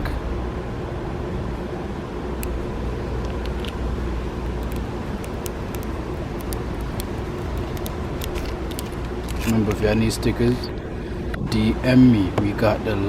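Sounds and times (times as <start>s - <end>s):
car engine rumbling: 0.0s - 13.0s
faint steady hum: 0.0s - 13.0s.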